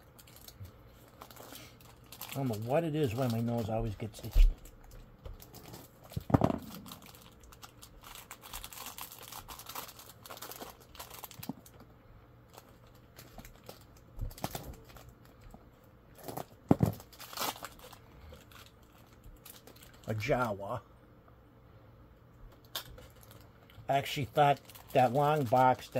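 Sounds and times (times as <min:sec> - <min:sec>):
plastic packaging crinkling: 0:00.0 - 0:11.9, 0:12.5 - 0:20.3, 0:22.5 - 0:25.9.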